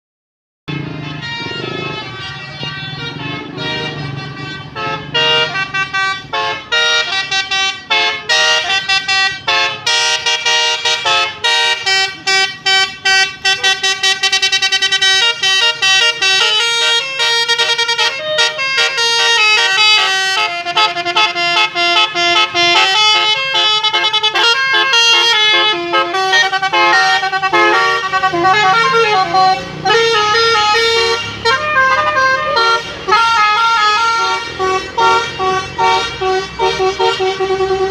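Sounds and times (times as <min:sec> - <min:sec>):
multi-note bus air horn melody: 0:00.7 - 0:37.9.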